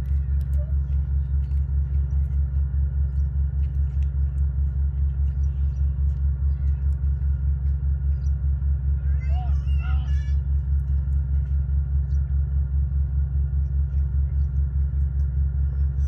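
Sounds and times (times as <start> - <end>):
low pulsing engine-like rumble: 0.0 - 16.0.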